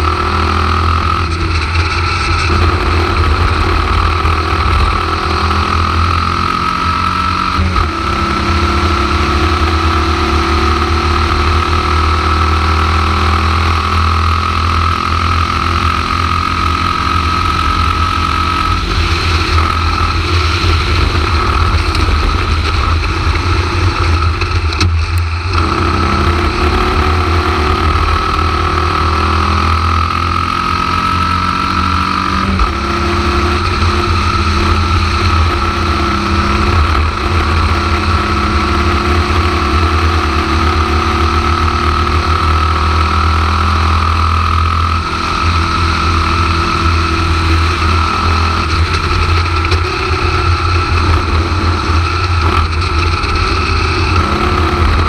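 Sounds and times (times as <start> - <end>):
racing car engine: 0.0 - 55.0.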